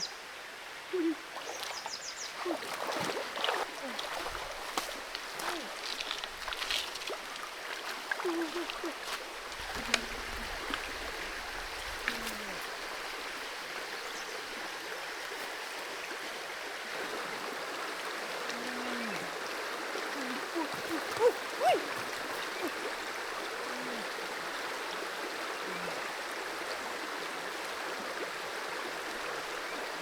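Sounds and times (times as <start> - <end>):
creek water over rocks: 0.0 - 30.0.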